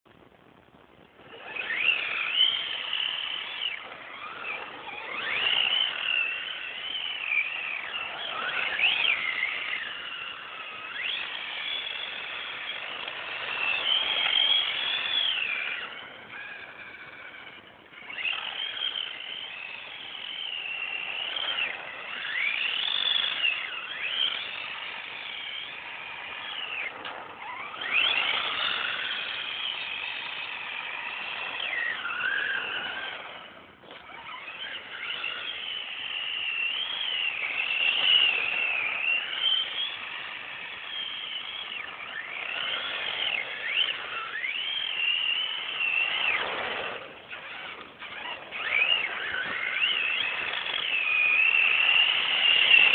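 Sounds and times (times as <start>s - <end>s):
toy car electric motor whining: 1.1s - 52.9s.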